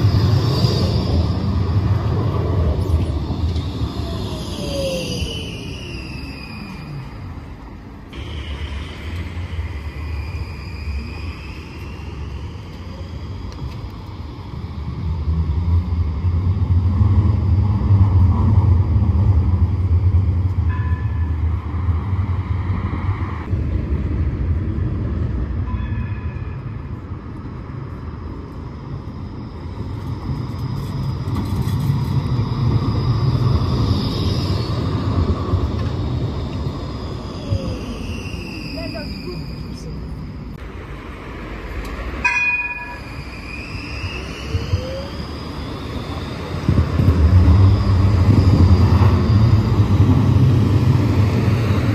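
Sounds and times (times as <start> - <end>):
tram traction motor whine: 0.0 - 51.9
tram wheels rumbling on rails: 0.0 - 51.9.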